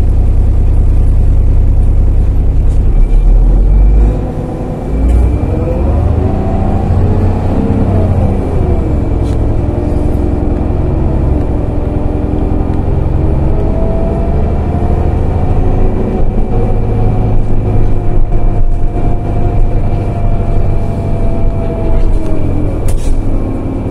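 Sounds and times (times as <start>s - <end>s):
bus engine and road noise: 0.0s - 23.9s
engine whine: 0.0s - 23.9s.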